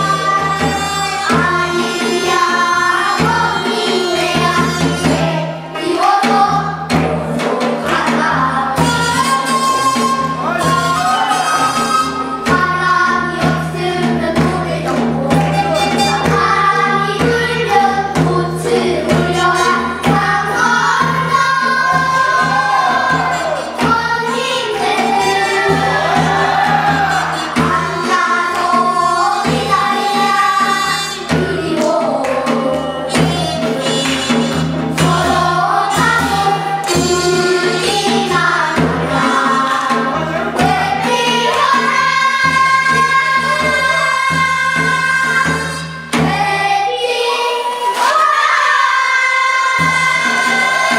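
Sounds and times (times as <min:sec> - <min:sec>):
children's choir singing: 0:00.0 - 0:50.9
instrumental accompaniment with beat: 0:00.0 - 0:50.9.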